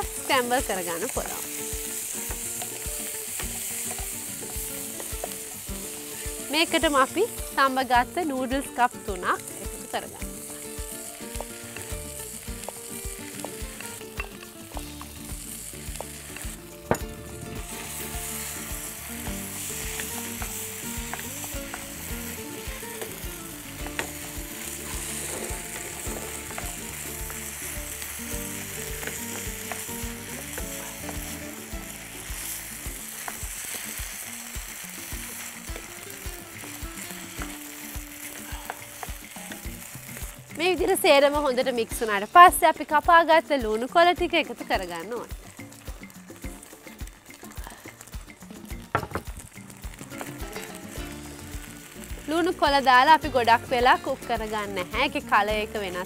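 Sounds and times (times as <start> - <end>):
noodles sizzling in a wok: 0.0 - 56.0.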